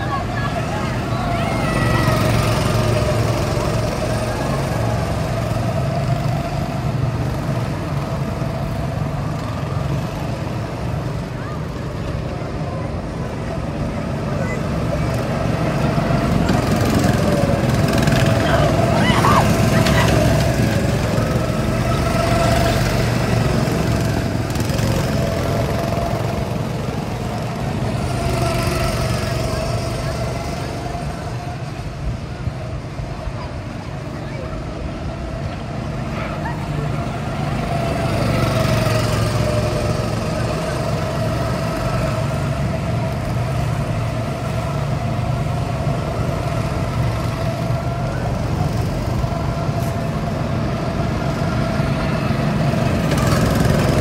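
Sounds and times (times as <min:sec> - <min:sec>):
go-kart engines droning: 0:00.0 - 0:54.0.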